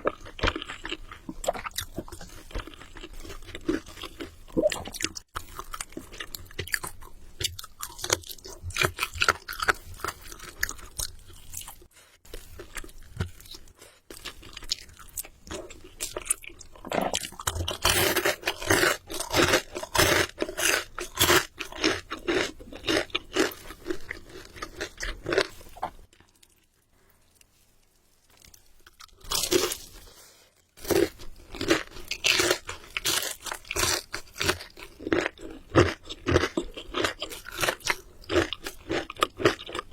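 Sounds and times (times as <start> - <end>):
chewing crispy chicken: 0.0 - 39.9.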